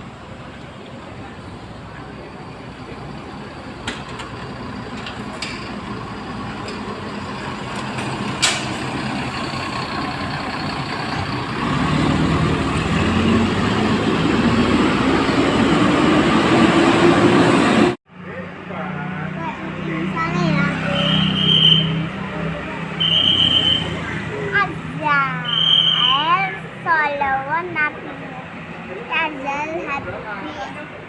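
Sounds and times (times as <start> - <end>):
diesel bus engine: 0.0 - 31.0.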